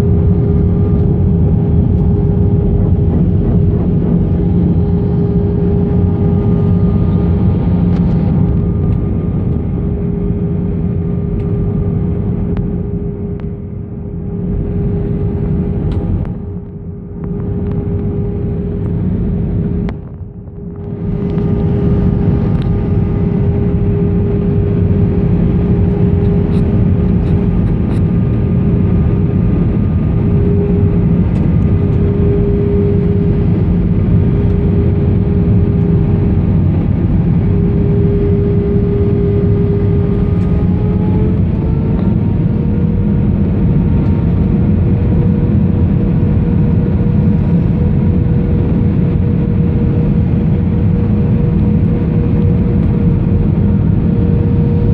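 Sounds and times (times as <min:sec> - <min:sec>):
airliner cabin rumble: 0:00.0 - 0:54.9
jet engine hum: 0:00.0 - 0:54.9.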